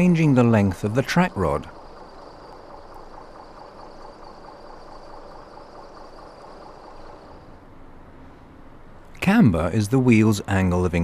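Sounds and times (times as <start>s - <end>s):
high whine: 0.0s - 11.0s.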